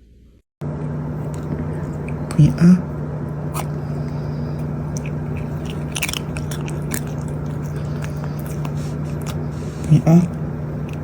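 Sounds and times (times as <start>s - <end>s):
steady low hum: 0.0s - 11.0s
chewing and crunching: 1.1s - 11.0s.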